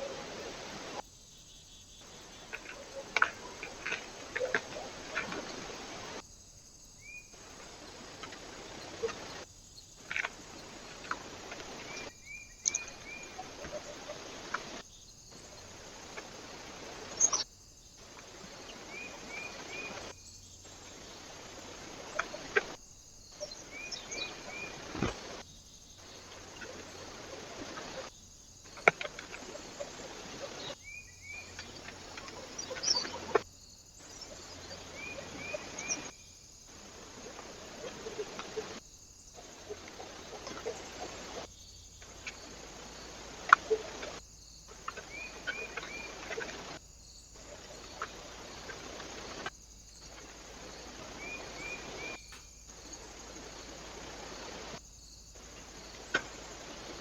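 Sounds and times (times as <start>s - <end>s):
steady hiss: 0.0s - 57.0s
small birds chirping: 6.8s - 57.0s.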